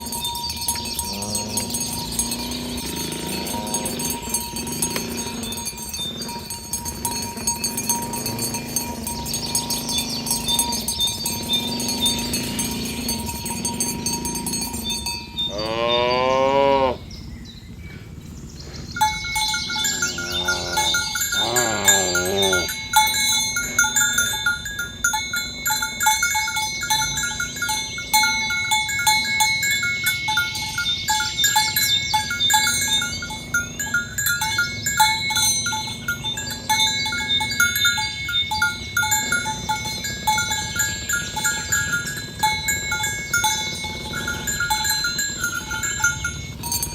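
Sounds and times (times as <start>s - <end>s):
cattle bells clanking: 0.0s - 17.0s, 18.6s - 46.9s
cattle mooing: 0.0s - 17.0s, 18.6s - 30.0s, 31.6s - 46.9s.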